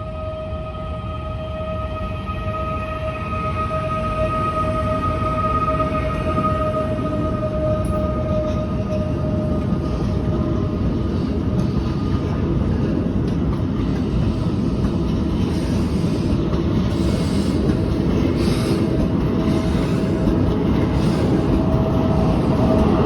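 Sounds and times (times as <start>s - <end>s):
high-speed train running: 0.0s - 23.0s.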